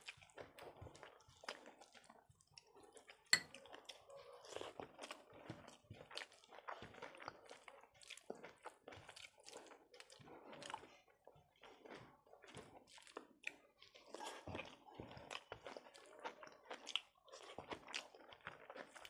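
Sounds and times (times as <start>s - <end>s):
wet chewing and mouth smacks: 0.0s - 11.0s, 11.6s - 19.0s.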